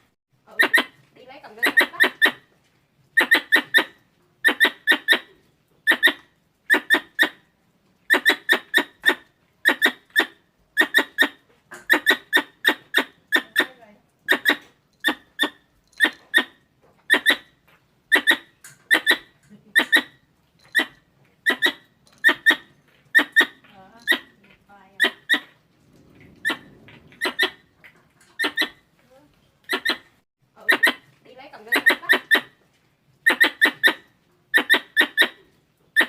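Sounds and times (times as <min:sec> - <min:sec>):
squirrel chirping: 0:00.5 - 0:02.4, 0:03.1 - 0:07.4, 0:08.1 - 0:24.4, 0:25.0 - 0:25.6, 0:26.4 - 0:28.9, 0:29.6 - 0:32.6, 0:33.2 - 0:36.0.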